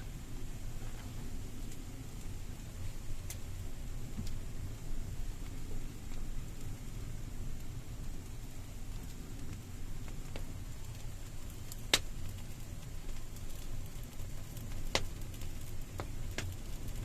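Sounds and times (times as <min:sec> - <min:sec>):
fire popping and crackling: 0:00.0 - 0:17.0
wood fire rumbling: 0:00.0 - 0:17.0.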